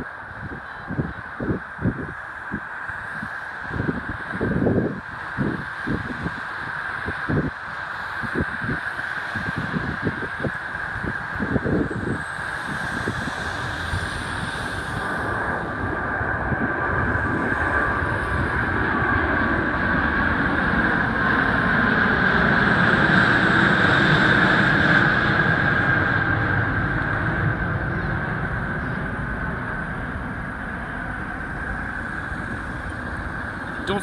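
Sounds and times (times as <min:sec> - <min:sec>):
jet engines roaring with whine: 0:00.0 - 0:34.0.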